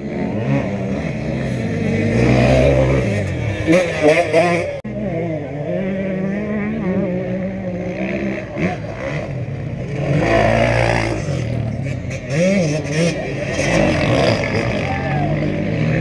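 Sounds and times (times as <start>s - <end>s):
motorcycle engine revving: 0.0s - 16.0s
motorcycle engines running: 0.0s - 16.0s.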